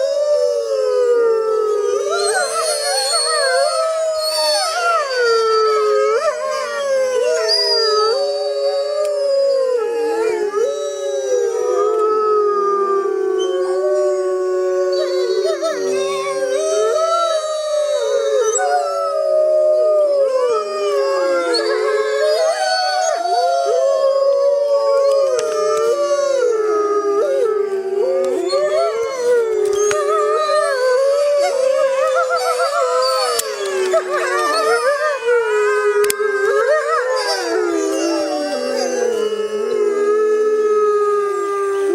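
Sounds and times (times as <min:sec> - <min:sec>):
wolves howling in chorus: 0:00.0 - 0:41.9.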